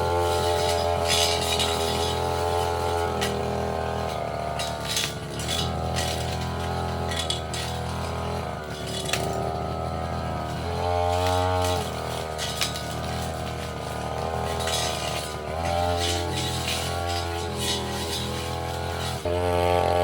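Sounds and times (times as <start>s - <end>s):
brush cutter engine running: 0.0s - 20.0s
metal blade clinking on stems: 0.1s - 20.0s.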